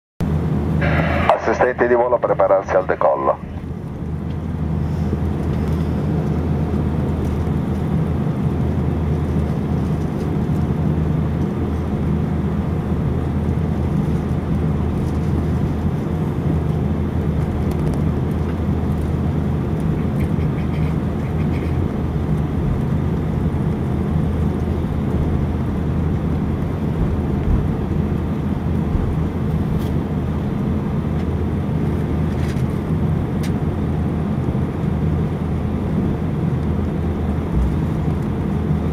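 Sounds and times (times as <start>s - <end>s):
jet engines humming from cabin: 0.2s - 38.9s.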